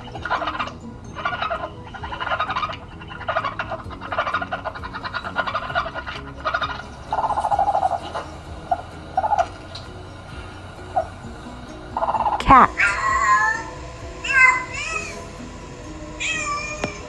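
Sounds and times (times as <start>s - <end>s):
raccoon chittering: 0.0s - 17.0s.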